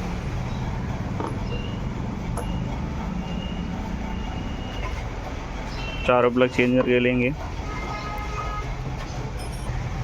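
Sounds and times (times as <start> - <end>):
low rumble of vehicles: 0.0 - 10.0.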